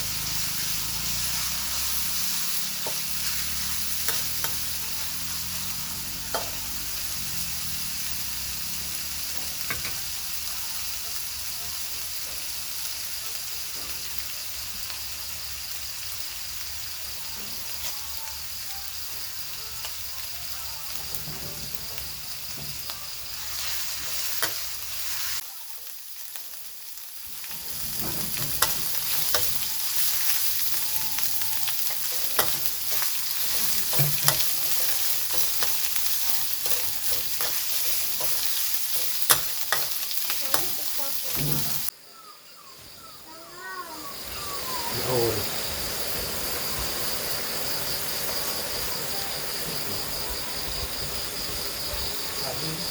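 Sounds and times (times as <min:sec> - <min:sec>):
food sizzling in a pan: 0:00.0 - 0:52.9.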